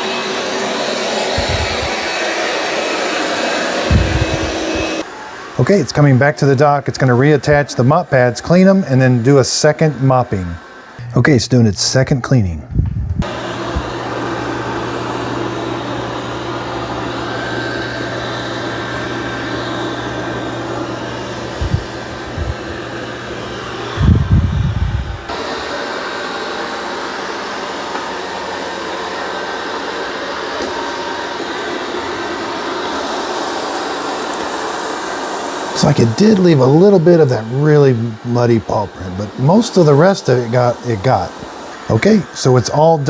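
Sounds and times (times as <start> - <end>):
robot vacuum suction fan whir: 0.0 - 11.0, 12.8 - 43.0.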